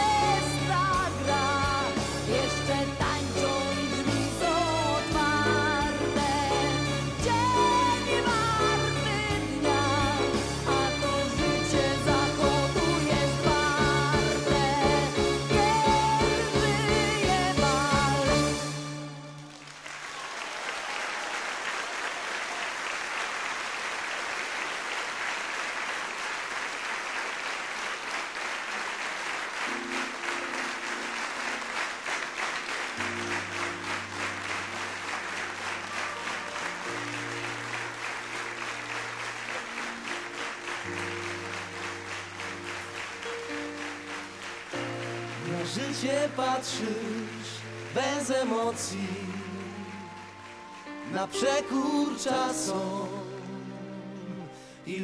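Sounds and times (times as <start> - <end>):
audience applauding: 4.6 - 53.8.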